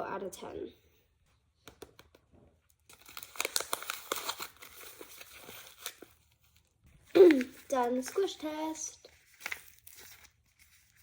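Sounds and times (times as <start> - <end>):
paper crinkling in hands: 2.1 - 11.0.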